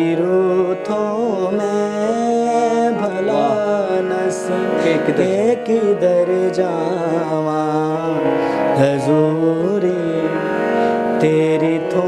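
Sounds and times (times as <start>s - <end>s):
harmonium sustained notes: 0.0s - 12.0s
man singing: 0.0s - 12.0s.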